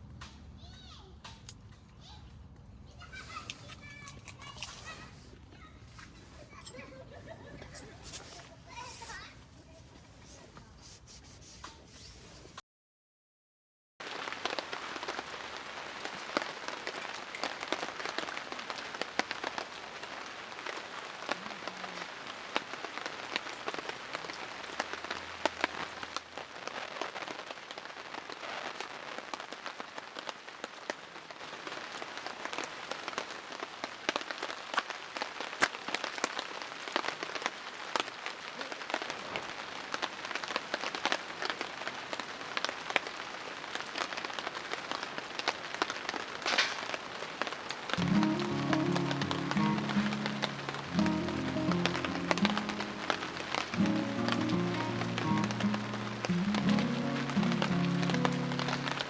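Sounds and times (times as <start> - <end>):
rain falling: 2.9 - 11.0, 14.0 - 59.0.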